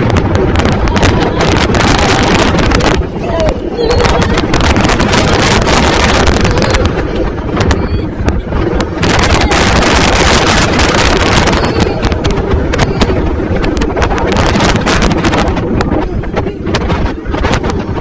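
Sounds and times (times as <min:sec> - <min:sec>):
roller coaster rumbling on track: 0:00.0 - 0:18.0
wind rushing over microphone: 0:00.0 - 0:18.0.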